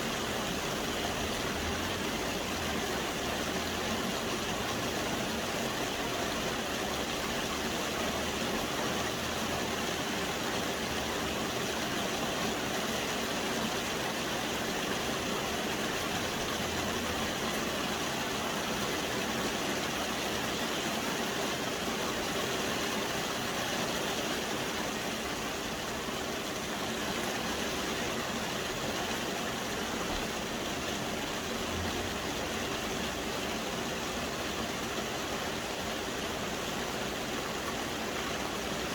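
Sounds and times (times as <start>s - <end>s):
soft rain falling: 0.0s - 38.9s.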